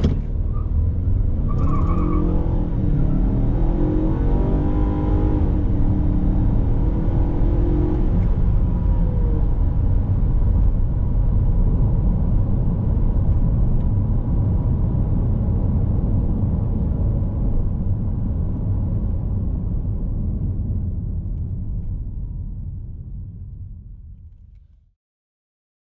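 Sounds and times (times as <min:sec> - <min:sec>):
road and tyre rumble: 0:00.0 - 0:24.6.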